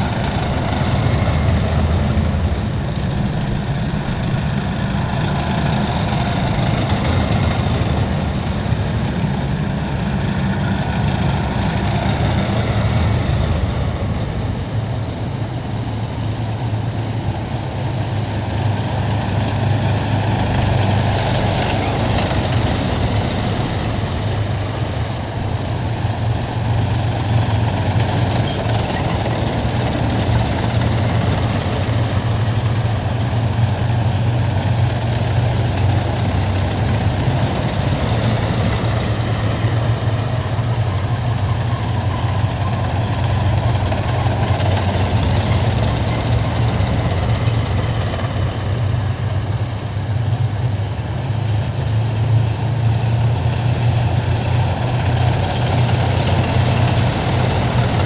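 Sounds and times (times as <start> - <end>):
military vehicles rumbling past: 0.0 - 58.0.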